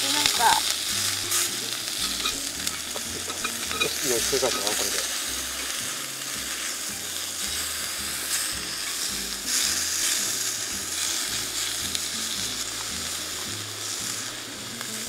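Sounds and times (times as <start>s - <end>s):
beef sizzling in a skillet: 0.0s - 15.0s.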